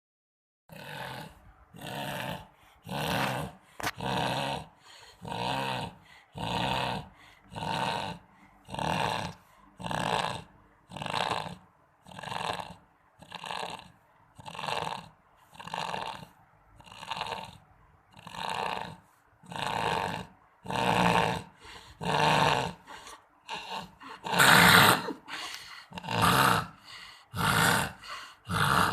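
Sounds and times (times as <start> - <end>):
dog snoring loudly: 0.7 - 28.9.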